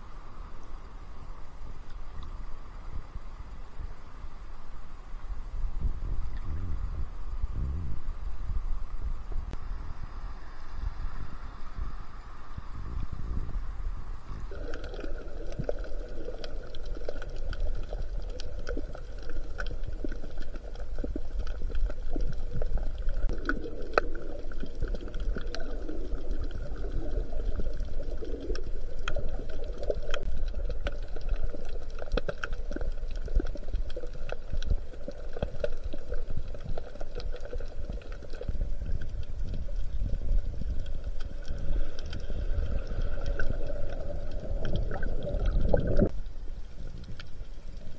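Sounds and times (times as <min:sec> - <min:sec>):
small underwater clicks and crackles: 0:00.0 - 0:47.9
underwater rumble of moving water: 0:00.0 - 0:47.9.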